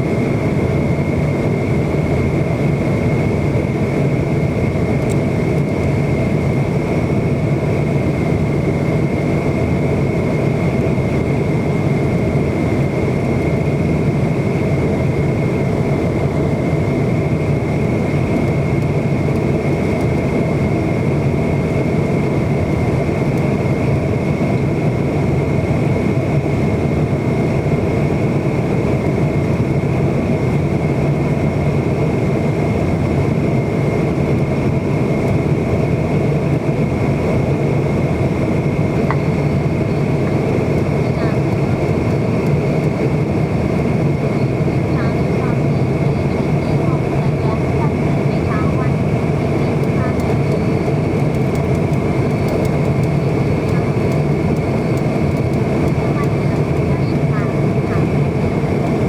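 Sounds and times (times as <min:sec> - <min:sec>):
aircraft cabin drone: 0:00.0 - 0:59.0
thin steady whine: 0:00.0 - 0:59.0.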